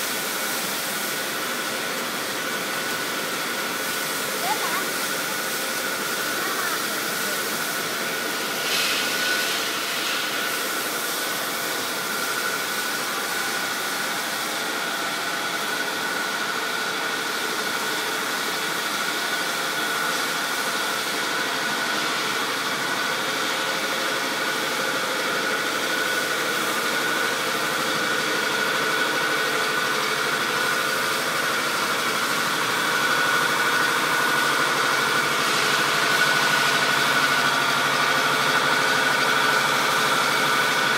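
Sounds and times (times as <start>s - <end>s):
machinery humming: 0.0s - 40.9s.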